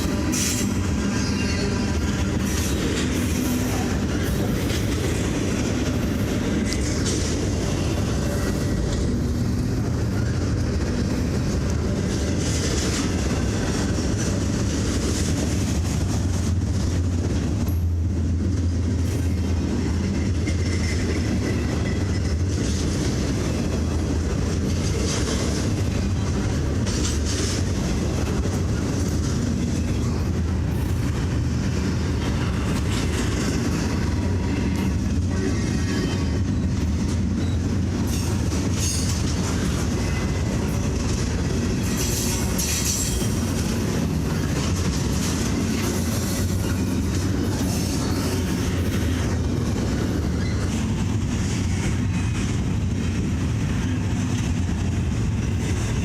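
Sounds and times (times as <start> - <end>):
rumble of wheels on rail: 0.0 - 56.0
train cars clattering: 0.0 - 56.0.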